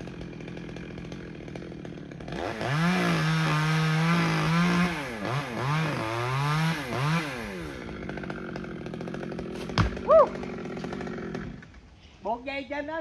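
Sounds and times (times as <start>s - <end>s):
chainsaw engine revving: 0.0s - 11.9s.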